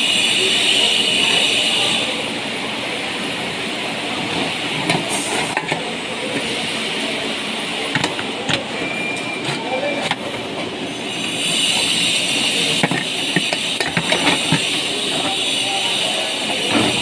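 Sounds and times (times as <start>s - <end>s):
building site background noise: 0.0s - 17.0s.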